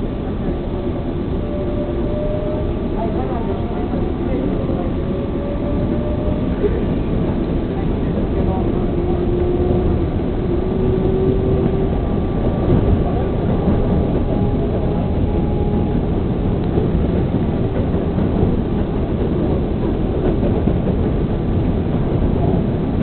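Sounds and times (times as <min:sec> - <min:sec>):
subway wheels rumbling on track: 0:00.0 - 0:23.0.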